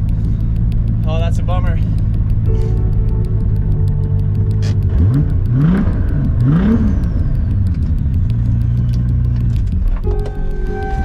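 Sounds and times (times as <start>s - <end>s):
car engine idling: 0.0s - 11.0s
car engine revving: 0.0s - 11.0s.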